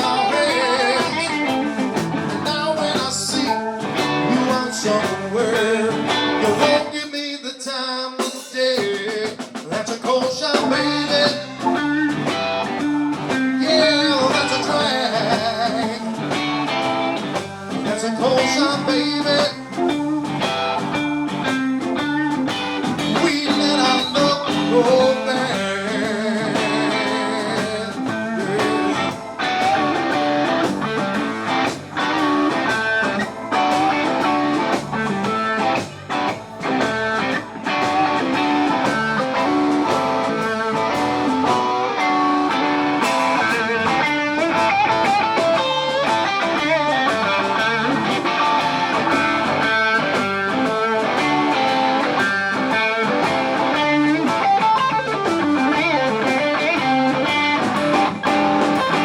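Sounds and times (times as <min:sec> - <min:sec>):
blues-rock band playing: 0:00.0 - 0:07.3, 0:08.2 - 0:59.0
electric guitar: 0:00.0 - 0:59.0.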